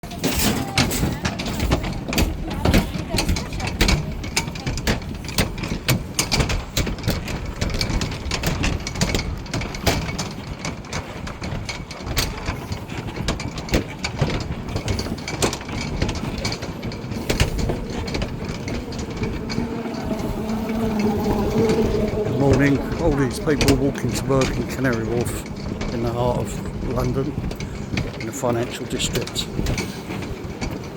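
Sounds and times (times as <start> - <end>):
steady low rumble: 1.3 - 30.9.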